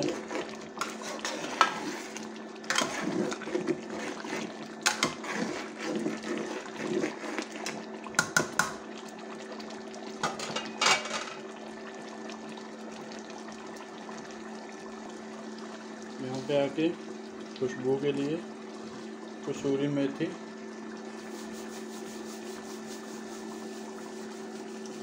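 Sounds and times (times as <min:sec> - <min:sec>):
curry bubbling: 0:00.0 - 0:25.0
electric cooktop hum: 0:00.0 - 0:25.0.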